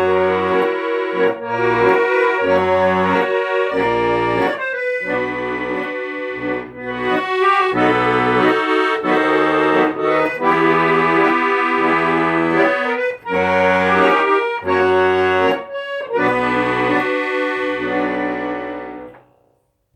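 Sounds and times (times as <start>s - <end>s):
accordion music: 0.0s - 19.3s.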